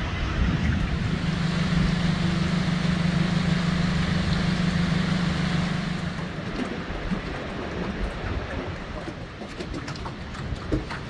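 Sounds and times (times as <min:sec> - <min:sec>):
boat engine humming: 0:00.0 - 0:11.0
water rushing: 0:00.0 - 0:11.0
wind: 0:00.0 - 0:11.0.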